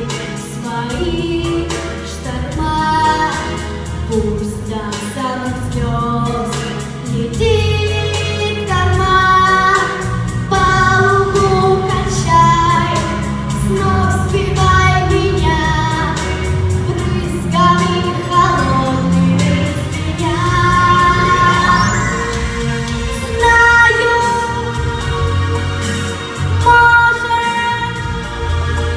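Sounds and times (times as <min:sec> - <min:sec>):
instrumental backing with beat: 0:00.0 - 0:28.9.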